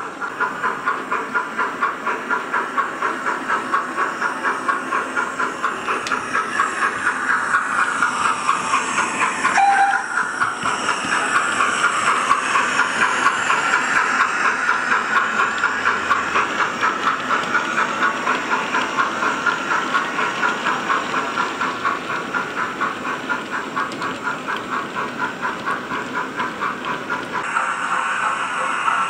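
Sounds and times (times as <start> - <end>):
steam locomotive chuffing: 0.0 - 29.0.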